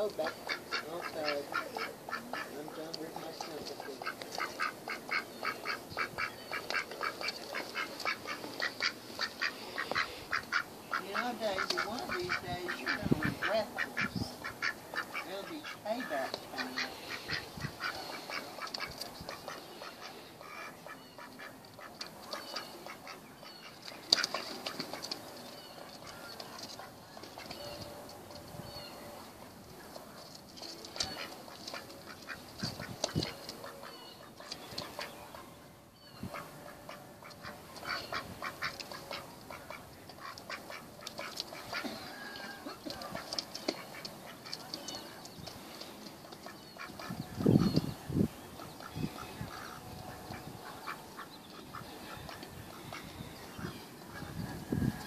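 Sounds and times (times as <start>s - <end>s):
duck quacking: 0.0s - 25.1s, 31.0s - 35.5s, 36.2s - 44.7s, 46.4s - 47.8s, 48.6s - 54.5s.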